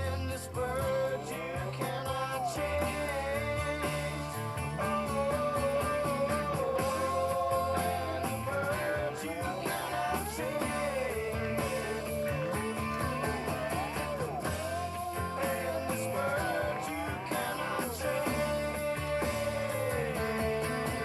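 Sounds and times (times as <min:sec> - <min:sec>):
rock song with guitar and drums: 0:00.0 - 0:21.0.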